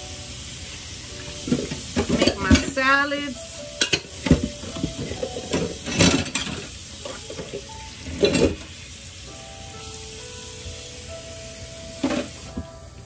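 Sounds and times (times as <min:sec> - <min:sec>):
steak sizzling on a grill: 0:00.0 - 0:13.0.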